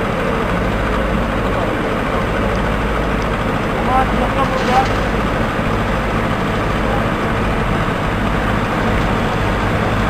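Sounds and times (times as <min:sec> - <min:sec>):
large engine running: 0:00.0 - 0:10.0.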